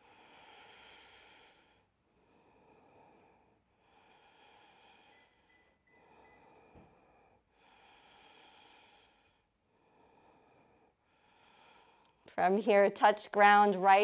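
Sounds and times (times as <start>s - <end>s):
slow breathing: 0.0s - 12.3s.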